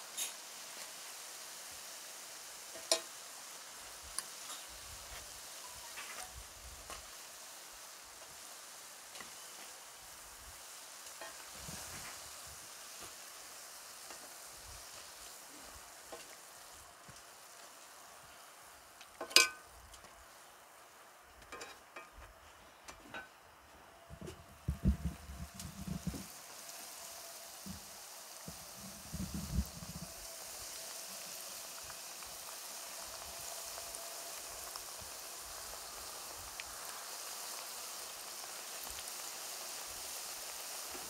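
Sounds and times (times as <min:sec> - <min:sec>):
pastries sizzling in hot oil: 0:00.0 - 0:41.0.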